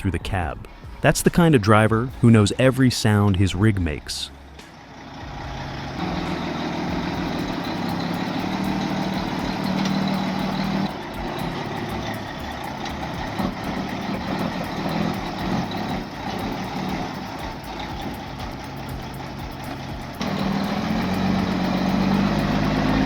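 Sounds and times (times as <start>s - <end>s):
truck diesel engine droning: 3.5s - 23.0s.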